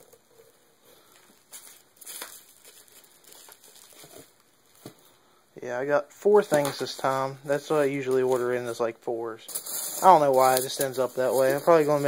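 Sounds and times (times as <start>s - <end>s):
foam packing peanuts rustling: 0.0s - 5.1s, 6.3s - 12.0s.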